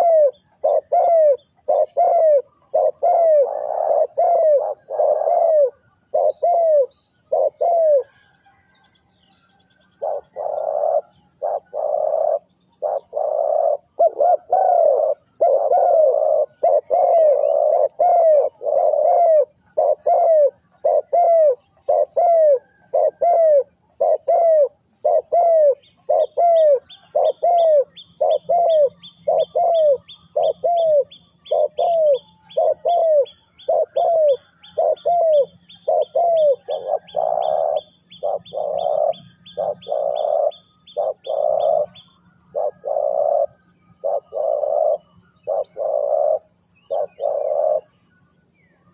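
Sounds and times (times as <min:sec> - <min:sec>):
dove cooing: 0:00.0 - 0:48.2
high chirps of small birds: 0:00.0 - 0:48.9.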